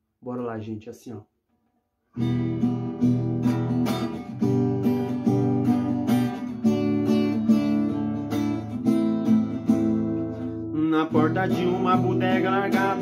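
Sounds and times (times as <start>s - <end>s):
acoustic guitar strumming: 2.2s - 13.0s.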